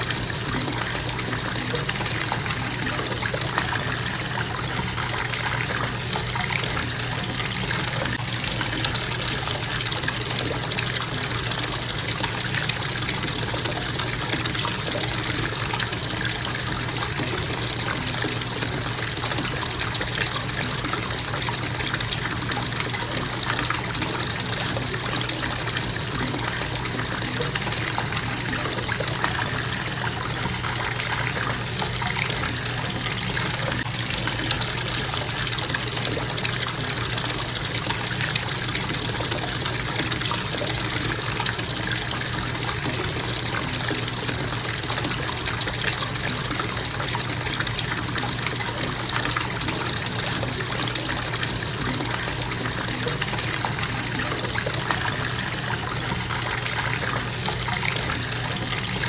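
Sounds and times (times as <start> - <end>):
faucet running into bathtub: 0.0 - 59.0.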